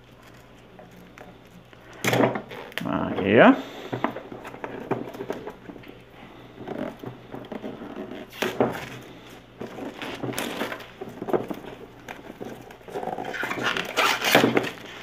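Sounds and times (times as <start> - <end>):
shrink wrap crinkling: 0.0 - 15.0.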